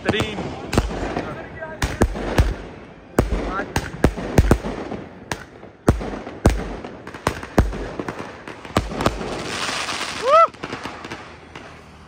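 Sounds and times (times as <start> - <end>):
firecracker crackle: 0.0 - 12.0
fireworks bangs: 0.0 - 12.0.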